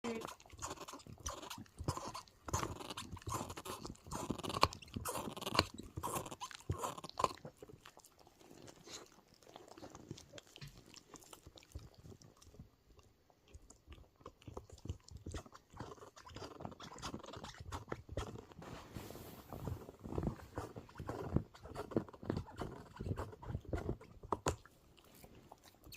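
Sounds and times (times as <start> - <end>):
pet chewing and crunching food: 0.0 - 25.9.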